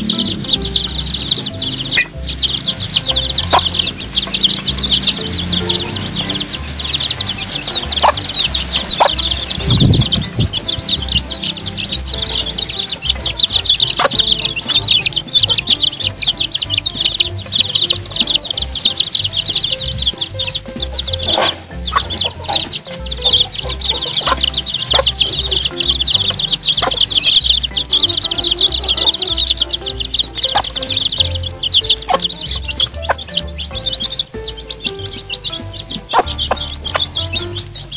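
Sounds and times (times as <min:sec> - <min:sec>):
chicks peeping: 0:00.0 - 0:37.9.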